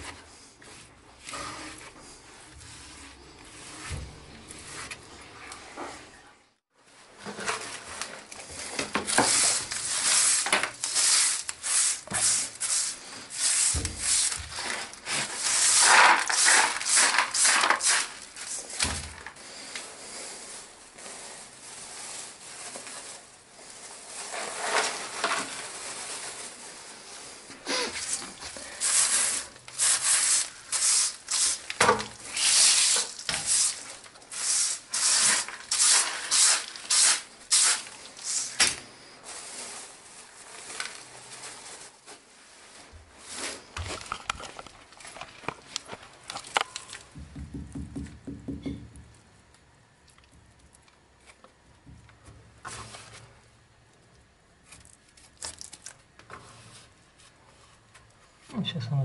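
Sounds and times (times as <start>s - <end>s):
broom sweeping floor: 0.0s - 47.2s, 52.2s - 53.5s, 56.3s - 58.4s.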